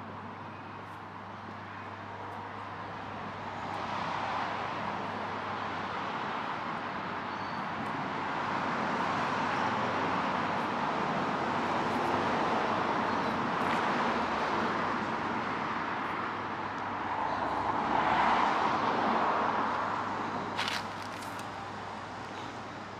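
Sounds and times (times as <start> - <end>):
passing cars: 0.0 - 22.9.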